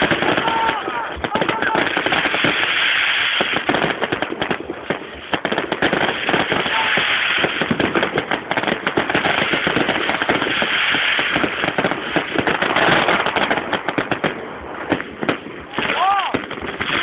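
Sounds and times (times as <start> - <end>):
firecrackers going off: 0.0 - 17.0.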